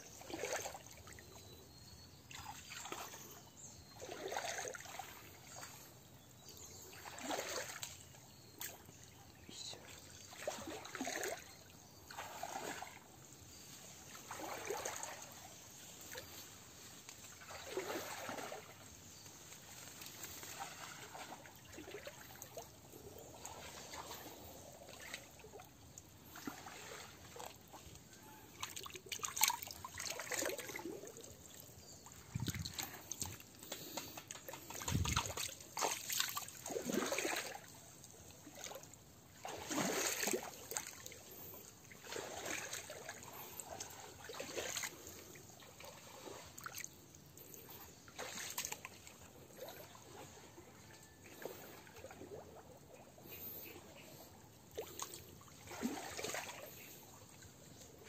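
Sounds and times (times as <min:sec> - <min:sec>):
water splashing under wading steps: 0:04.0 - 0:05.9, 0:06.6 - 0:09.1, 0:09.8 - 0:13.2, 0:14.0 - 0:16.4, 0:17.0 - 0:58.0.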